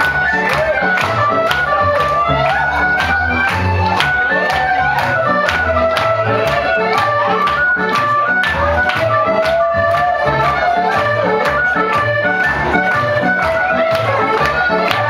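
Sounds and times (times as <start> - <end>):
folk dance band with accordion: 0.0 - 15.0.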